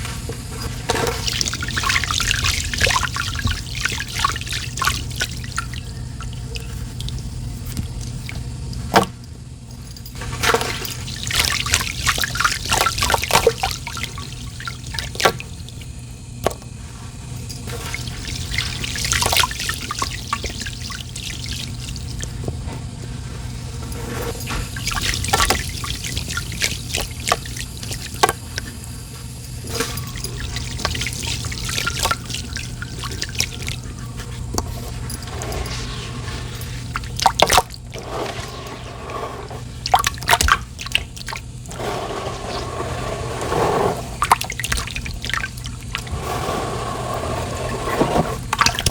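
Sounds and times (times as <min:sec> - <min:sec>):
drips and small splashes: 0:00.0 - 0:48.9
water trickling: 0:00.0 - 0:48.9.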